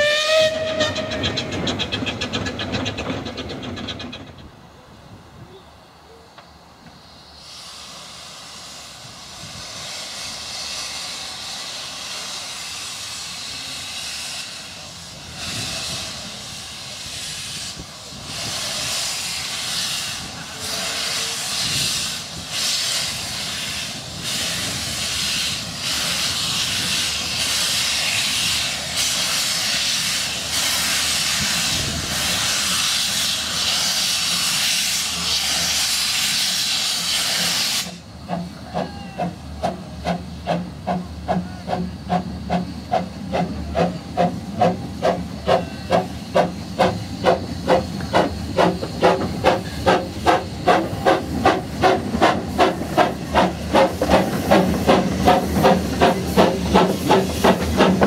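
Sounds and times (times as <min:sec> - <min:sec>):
steam locomotive hissing steam: 0:05.3 - 0:58.0.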